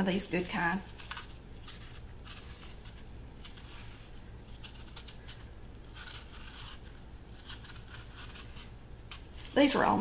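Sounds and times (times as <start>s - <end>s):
faint low hum: 0.0s - 10.0s
knife scraping apple skin: 0.2s - 10.0s.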